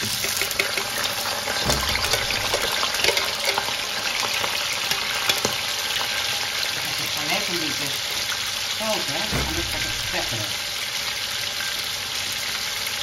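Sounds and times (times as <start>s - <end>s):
fish sizzling in hot oil: 0.0s - 13.0s
oil crackling and popping: 0.0s - 13.0s.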